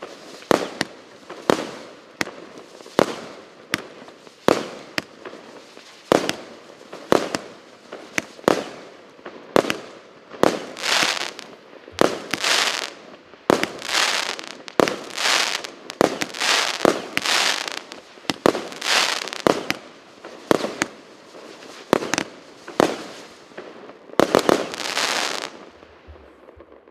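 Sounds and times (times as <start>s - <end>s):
fireworks popping and crackling: 0.0s - 26.9s.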